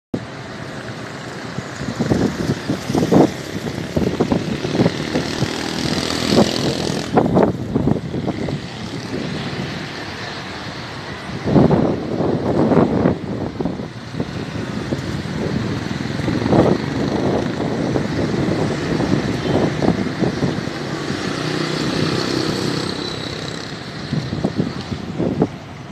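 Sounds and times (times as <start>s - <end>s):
motor vehicles passing: 0.2s - 25.9s.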